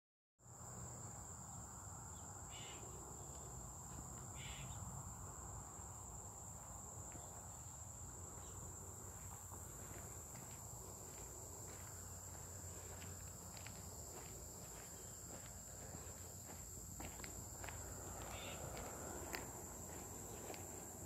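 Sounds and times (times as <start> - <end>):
cicadas droning: 0.4 - 21.0.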